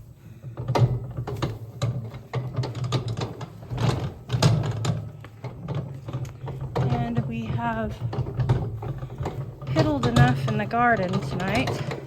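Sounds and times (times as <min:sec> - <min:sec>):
metal wheelbarrow rattling and knocking: 0:00.0 - 0:12.0.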